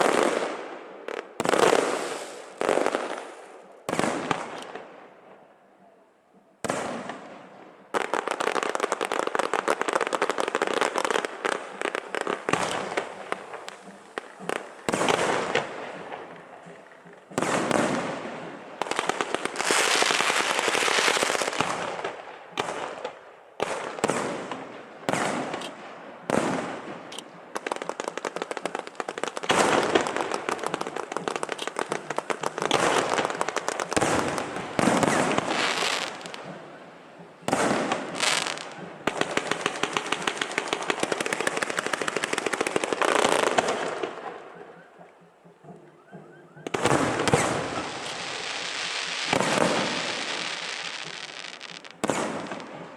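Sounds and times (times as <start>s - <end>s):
fireworks banging and crackling: 0.0s - 5.4s, 6.6s - 52.9s.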